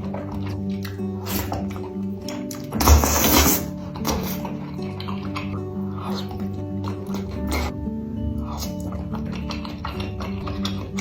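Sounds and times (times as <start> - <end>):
background music: 0.0 - 11.0
noisy eating sound: 0.0 - 11.0.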